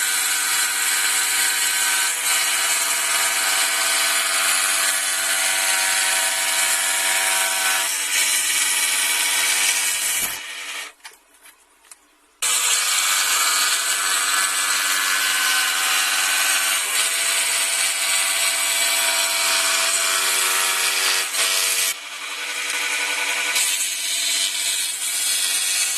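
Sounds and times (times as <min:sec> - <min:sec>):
scroll saw cutting wood: 0:00.0 - 0:11.0, 0:12.4 - 0:25.9.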